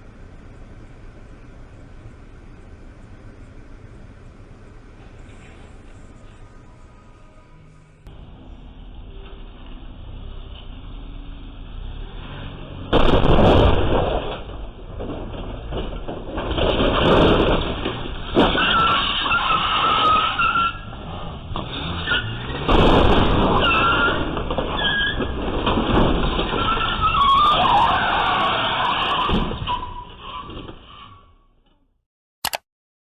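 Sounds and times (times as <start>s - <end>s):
road vehicle noise: 0.0s - 32.6s.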